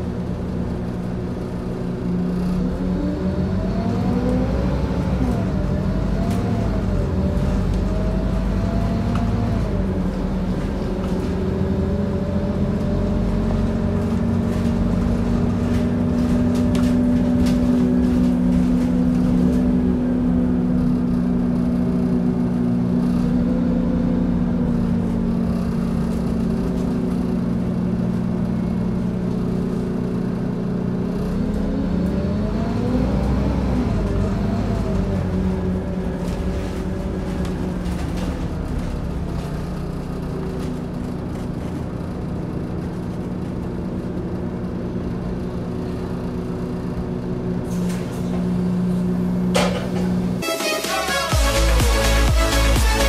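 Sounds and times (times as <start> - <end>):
bus driveline whine: 0.0 - 53.0
bus engine drone: 0.0 - 53.0.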